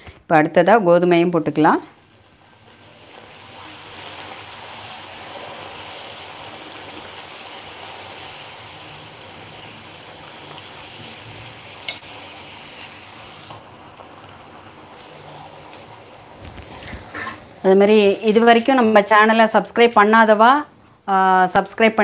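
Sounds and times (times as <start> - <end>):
oil sizzling: 1.1 - 21.8.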